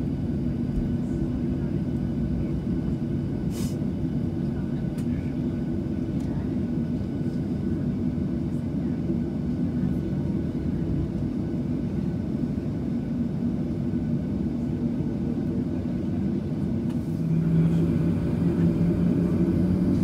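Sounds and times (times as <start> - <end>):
jet engines low rumble: 0.0 - 20.0.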